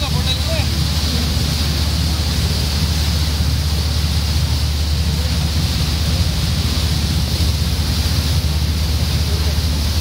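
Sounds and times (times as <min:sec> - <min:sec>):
boat engine droning: 0:00.0 - 0:10.0
wake water rushing: 0:00.0 - 0:10.0.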